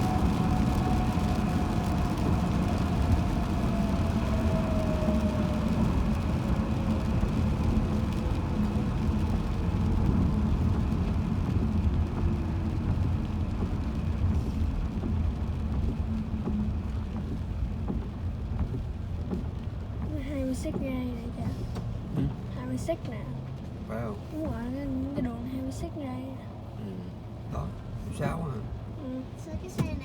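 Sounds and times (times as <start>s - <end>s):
car road and tyre noise: 0.0s - 30.0s.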